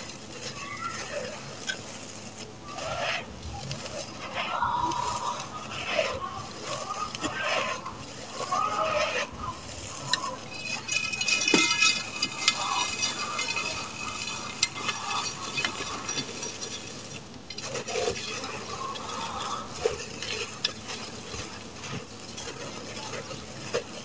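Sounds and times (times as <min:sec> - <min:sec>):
sand-cement lumps crumbled by hand: 0:00.0 - 0:24.0.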